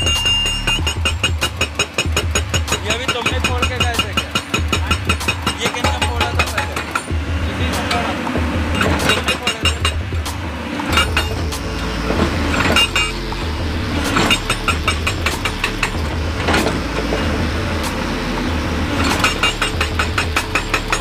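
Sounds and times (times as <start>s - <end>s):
diesel engine hum: 0.0s - 21.0s
hydraulic rock breaker hammering: 0.0s - 21.0s.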